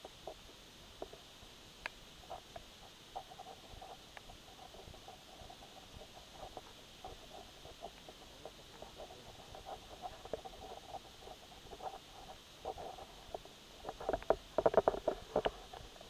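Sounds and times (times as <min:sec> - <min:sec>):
faint steady hiss: 0:00.0 - 0:16.0
small clicks and scratchy rustles: 0:00.0 - 0:16.0.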